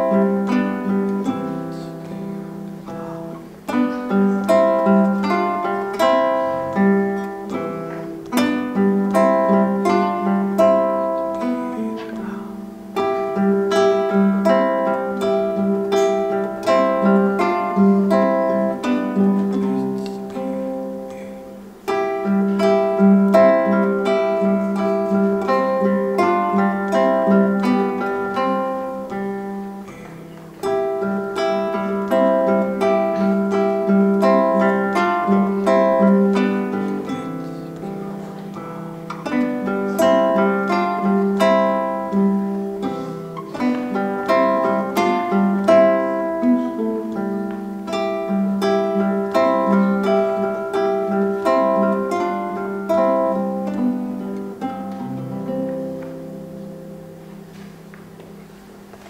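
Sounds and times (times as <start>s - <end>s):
classical guitar duet: 0.0s - 59.0s.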